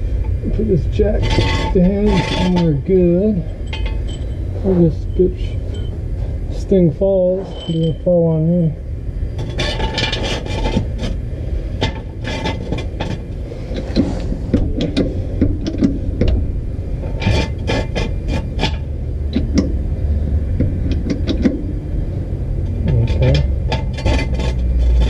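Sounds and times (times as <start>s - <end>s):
metal jack stand scraping: 0.2s - 21.8s, 22.6s - 25.0s.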